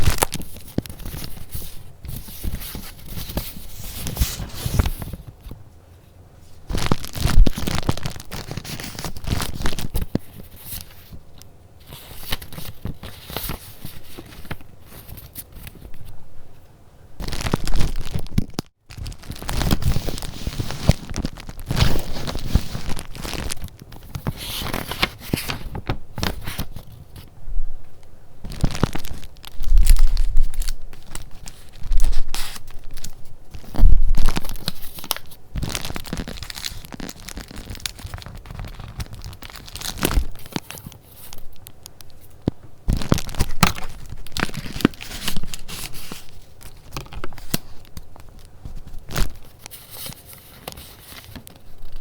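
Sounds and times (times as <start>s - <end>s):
paper rustling and crinkling: 0.0s - 5.6s, 6.5s - 16.2s, 17.2s - 27.3s, 28.4s - 52.0s.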